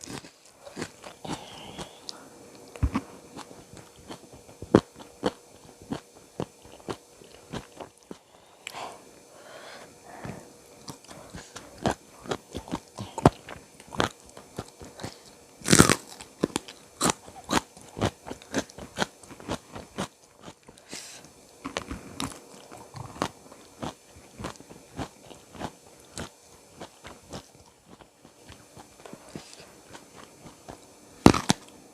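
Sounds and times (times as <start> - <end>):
person chewing crunchy food: 0.0 - 9.0, 10.0 - 31.8.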